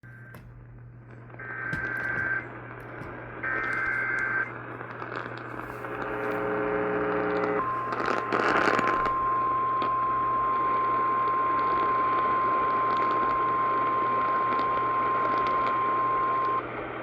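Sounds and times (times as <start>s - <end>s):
radio crackle: 0.0s - 17.0s
radio static and hum: 0.0s - 17.0s.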